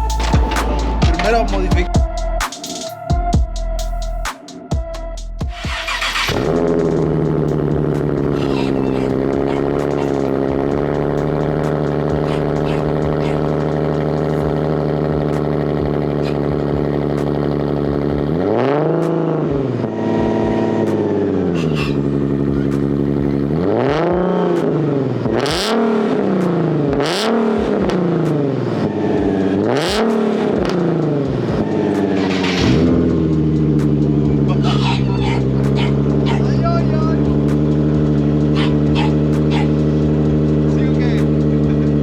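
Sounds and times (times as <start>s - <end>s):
car engine idling and revving: 0.0s - 2.5s, 3.2s - 42.0s.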